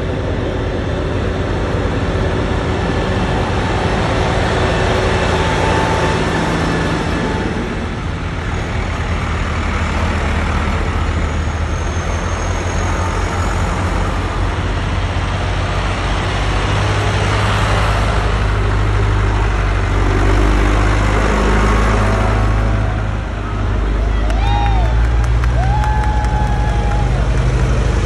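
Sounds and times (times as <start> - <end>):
tractor engines droning: 0.0 - 28.0
tyre and road noise: 0.0 - 28.0.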